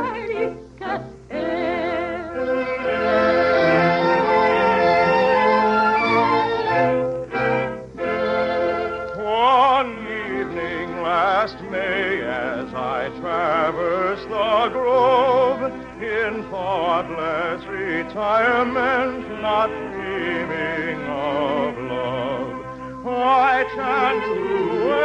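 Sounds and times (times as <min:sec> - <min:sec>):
operatic soprano singing: 0:00.0 - 0:25.0
orchestra playing: 0:02.3 - 0:25.0.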